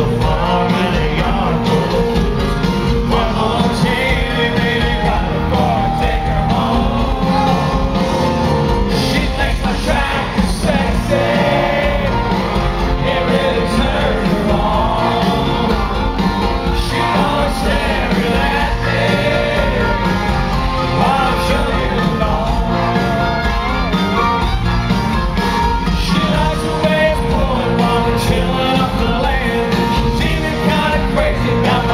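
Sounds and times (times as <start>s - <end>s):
lead singer: 0.0s - 24.6s, 25.7s - 31.9s
live country band: 0.0s - 31.9s.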